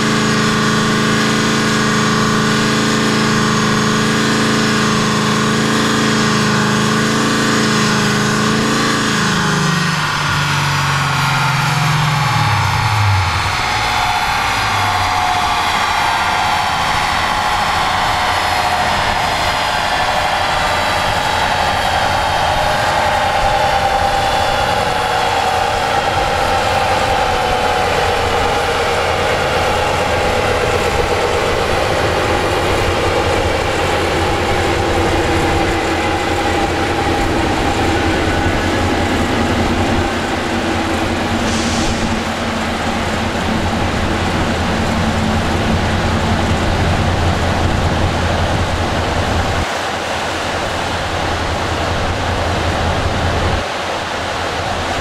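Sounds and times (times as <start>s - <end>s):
drivetrain whine falling in pitch: 0.0s - 55.0s
large cooling fan rushing: 0.0s - 55.0s.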